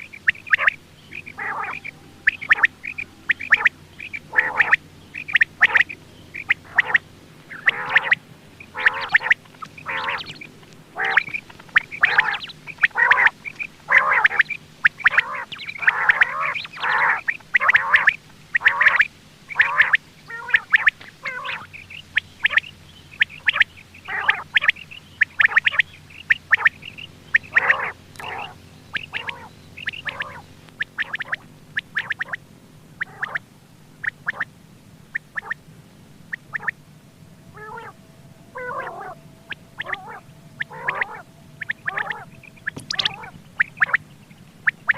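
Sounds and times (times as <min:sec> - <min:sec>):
quail calling: 0:00.0 - 0:32.4, 0:33.0 - 0:35.6, 0:36.2 - 0:44.9.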